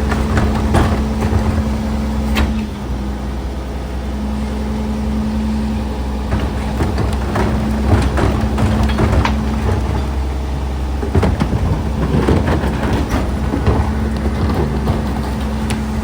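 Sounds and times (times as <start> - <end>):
garbage truck engine hum: 0.0 - 16.0.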